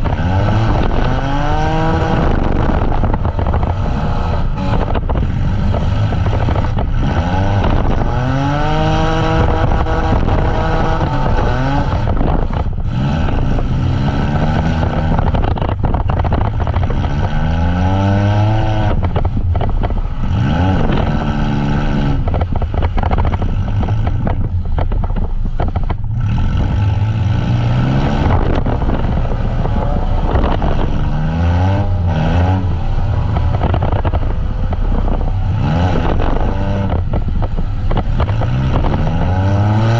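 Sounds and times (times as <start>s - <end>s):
din of other engines: 0.0s - 39.9s
van engines revving hard: 0.0s - 39.9s.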